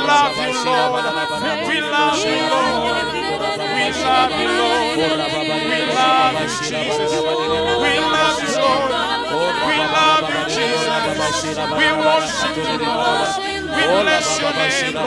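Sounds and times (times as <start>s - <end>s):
congregation singing: 0.0s - 15.0s
low held notes: 0.0s - 15.0s.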